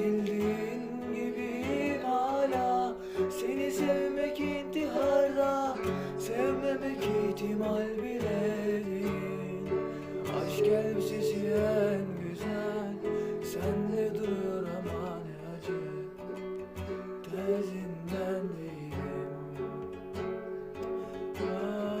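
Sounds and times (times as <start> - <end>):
slow acoustic guitar song: 0.0 - 22.0.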